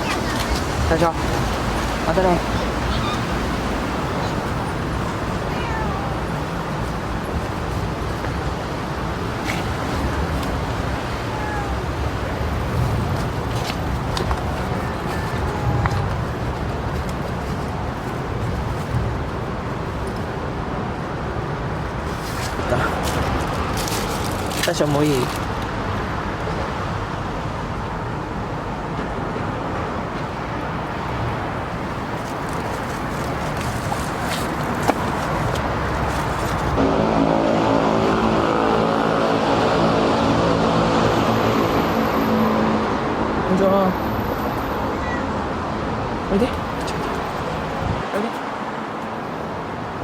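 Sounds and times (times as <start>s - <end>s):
road traffic hum: 0.0s - 50.0s.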